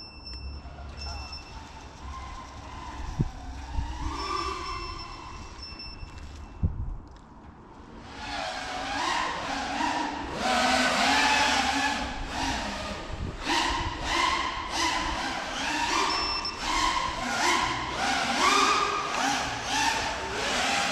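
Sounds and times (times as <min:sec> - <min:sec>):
quadcopter motors whining: 0:01.0 - 0:05.8, 0:08.0 - 0:20.9.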